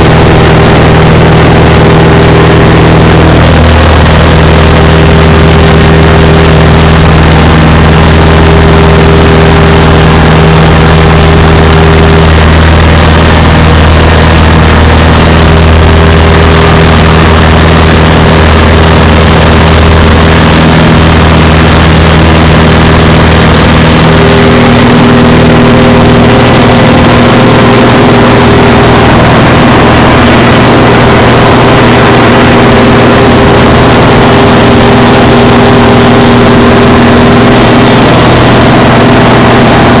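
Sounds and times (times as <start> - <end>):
propeller plane engine roaring: 0.0 - 40.0.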